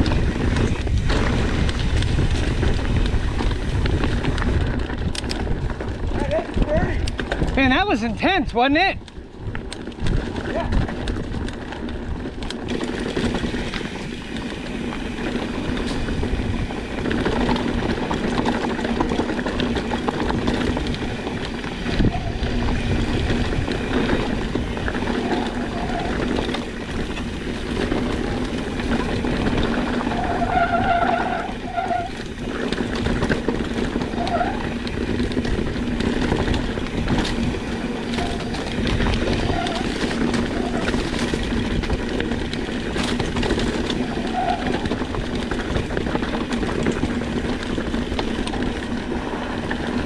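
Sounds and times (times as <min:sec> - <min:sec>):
bike tyres rattling over rock: 0:00.0 - 0:50.0.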